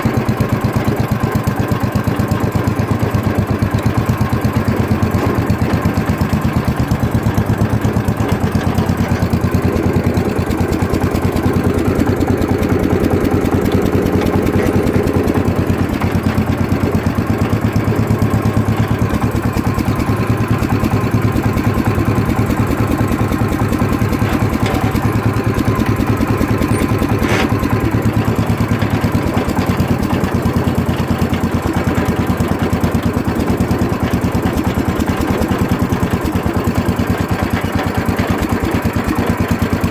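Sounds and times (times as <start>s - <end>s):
garden tractor engine putter: 0.0s - 39.9s.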